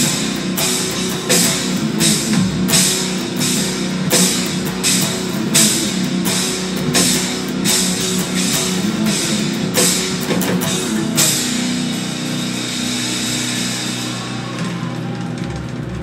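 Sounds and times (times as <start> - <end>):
drum kit and cymbals: 0.0 - 16.0
electric guitar: 0.0 - 16.0.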